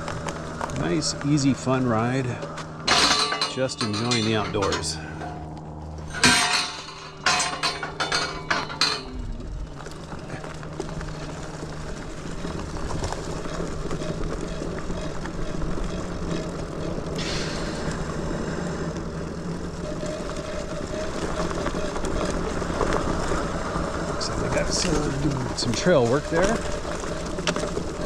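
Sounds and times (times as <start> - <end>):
electric bike rolling on dirt trail: 0.0 - 28.0
faint motor whine: 0.0 - 28.0.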